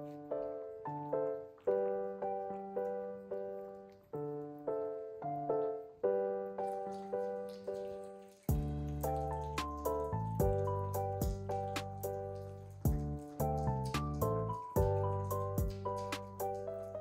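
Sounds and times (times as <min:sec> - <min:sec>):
piano-like keyboard melody: 0:00.0 - 0:17.0.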